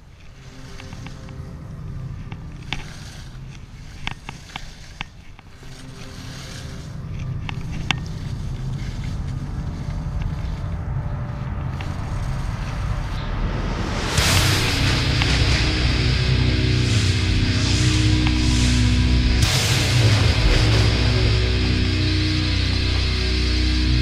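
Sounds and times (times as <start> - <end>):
skis running over snow: 0.0 - 24.0.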